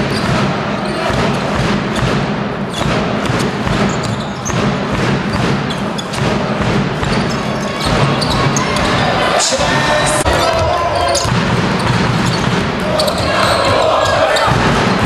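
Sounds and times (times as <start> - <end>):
basketball bouncing: 0.0 - 9.2, 10.2 - 15.0
echoing sports hall din: 0.0 - 15.0.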